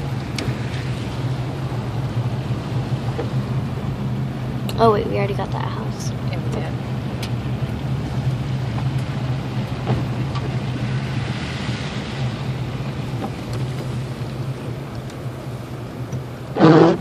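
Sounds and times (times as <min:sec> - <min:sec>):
car engine hum: 0:00.0 - 0:17.0
road noise rush: 0:00.0 - 0:17.0.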